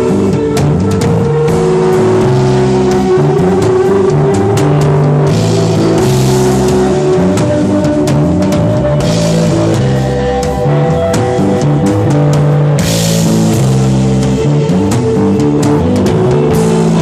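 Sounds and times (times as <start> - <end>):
instrumental rock band: 0.0 - 17.0.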